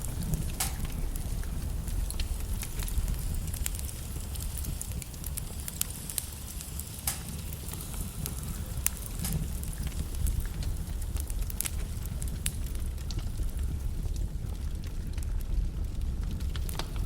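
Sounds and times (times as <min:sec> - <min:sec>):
flames rumbling: 0:00.0 - 0:17.0
logs crackling and popping: 0:00.0 - 0:17.0.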